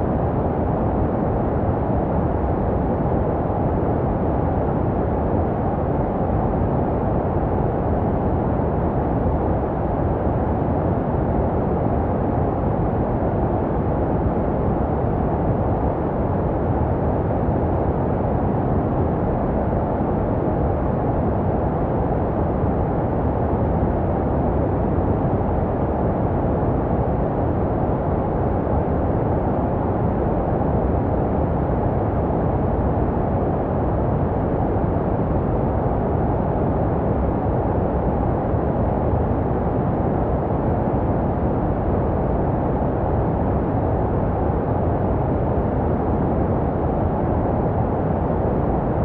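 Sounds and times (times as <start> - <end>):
muffled white noise rush: 0.0 - 49.0.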